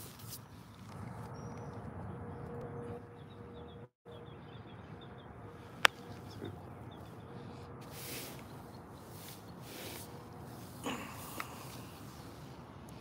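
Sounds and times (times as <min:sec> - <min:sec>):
low outdoor rumble: 0:00.4 - 0:13.0
small birds chirping: 0:00.4 - 0:13.0.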